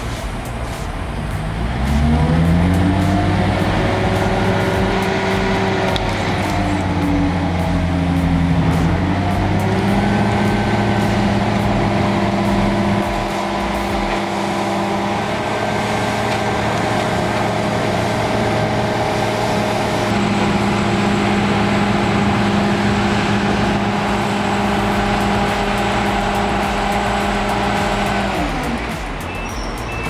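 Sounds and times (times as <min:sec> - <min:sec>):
heavy machine engine running: 0:00.0 - 0:30.0.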